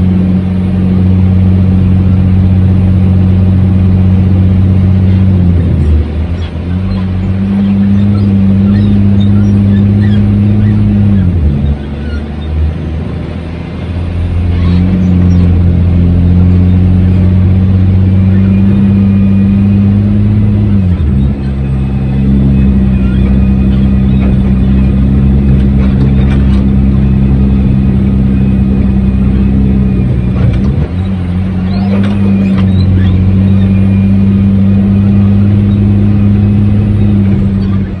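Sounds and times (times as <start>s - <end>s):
truck engine running hard: 0.0s - 38.0s.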